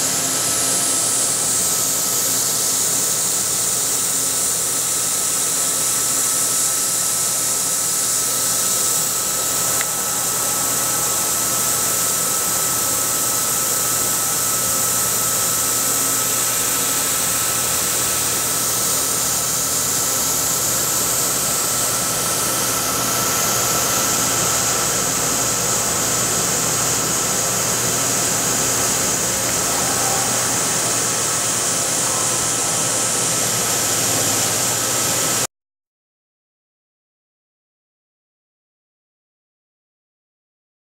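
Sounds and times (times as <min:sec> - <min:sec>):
air spray gun hissing: 0:00.0 - 0:35.4
thin steady tone: 0:00.0 - 0:35.4
fan running: 0:00.0 - 0:35.5.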